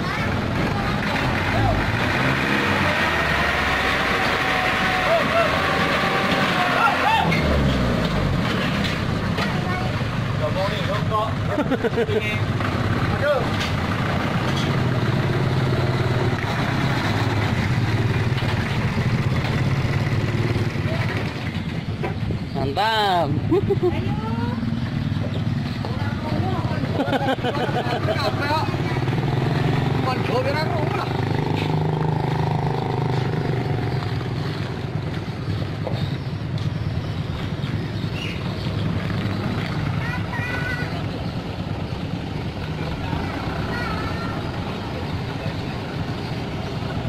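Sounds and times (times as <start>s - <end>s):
truck diesel engine at low revs: 0.0s - 47.0s.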